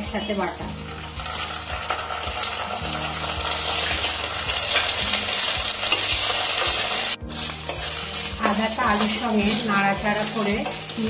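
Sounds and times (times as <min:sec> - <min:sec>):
potatoes sizzling in oil: 0:00.0 - 0:11.0
wooden spatula scraping wok: 0:00.0 - 0:11.0.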